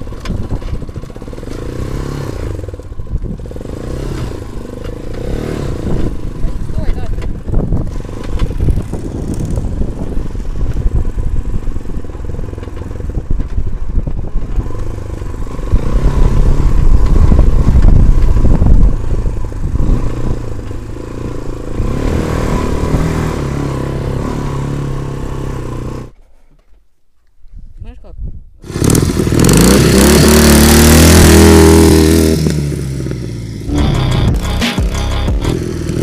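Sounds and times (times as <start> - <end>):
motorcycle engine on dirt: 0.0 - 26.9, 28.6 - 36.0.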